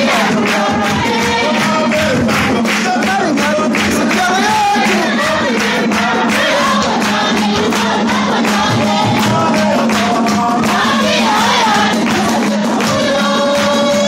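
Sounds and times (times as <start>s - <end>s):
choir singing: 0.0s - 2.7s, 3.8s - 14.0s
steady percussive beat: 0.0s - 14.0s.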